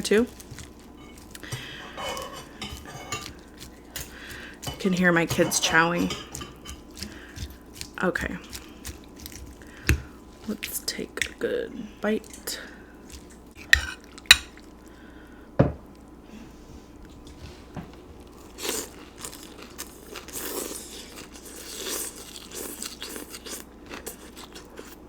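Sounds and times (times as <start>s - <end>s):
chewing and crunching: 0.0s - 11.4s, 12.2s - 15.0s, 17.2s - 25.0s.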